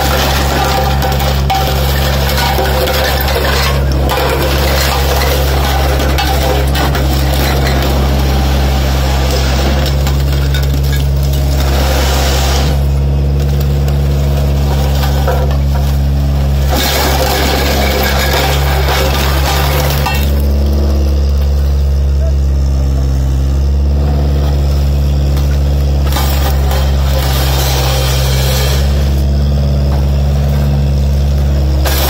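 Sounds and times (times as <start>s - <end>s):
glass bottles crunching: 0.0s - 22.0s, 24.2s - 32.0s
diesel engine running: 0.0s - 32.0s.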